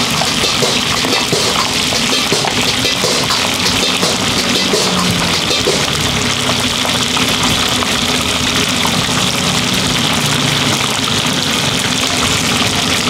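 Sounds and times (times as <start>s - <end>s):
oil frying hiss: 0.0s - 13.0s.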